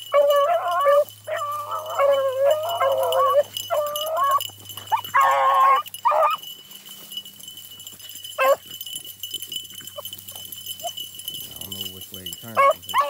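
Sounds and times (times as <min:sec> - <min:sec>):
dogs baying: 0:00.0 - 0:13.0.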